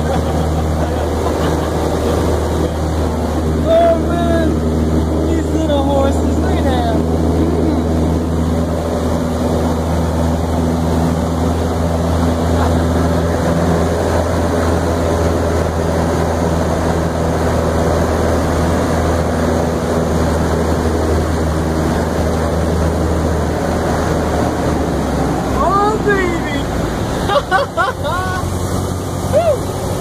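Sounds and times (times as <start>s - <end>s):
airplane engine drone in cabin: 0.0s - 30.0s.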